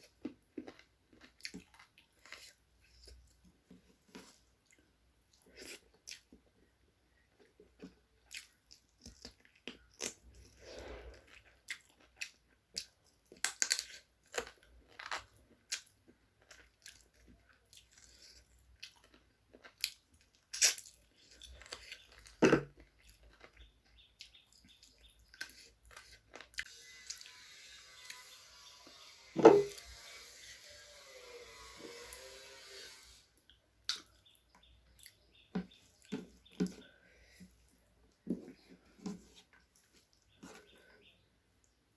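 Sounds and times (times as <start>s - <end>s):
chewing and crunching food: 0.0s - 29.0s, 33.4s - 41.8s.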